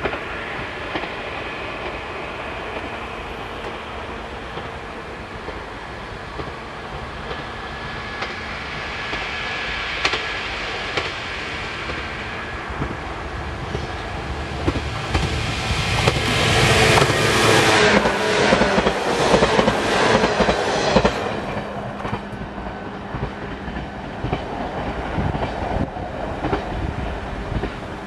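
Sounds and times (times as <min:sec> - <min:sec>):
electric train running past: 0:00.0 - 0:28.0.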